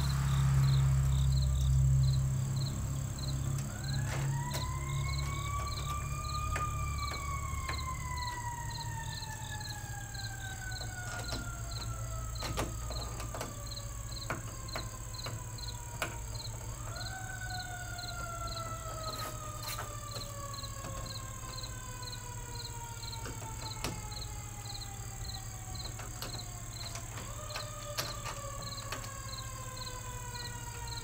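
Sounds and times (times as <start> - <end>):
siren wailing: 0.0 - 31.0
steady low hum: 0.0 - 31.0.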